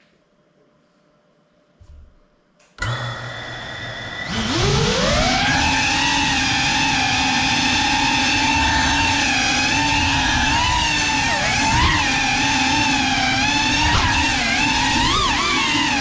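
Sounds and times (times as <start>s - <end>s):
quadcopter propellers whining: 2.8s - 16.0s.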